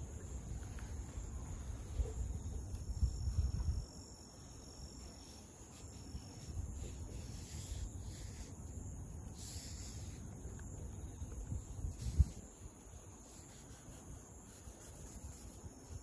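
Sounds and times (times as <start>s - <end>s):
insects singing: 0.0s - 16.0s.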